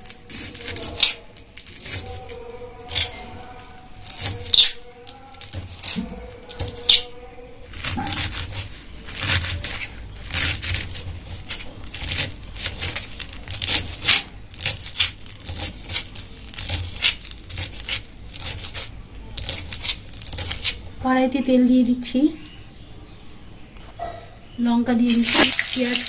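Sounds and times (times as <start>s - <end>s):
knife chopping leaves: 0.0s - 21.0s.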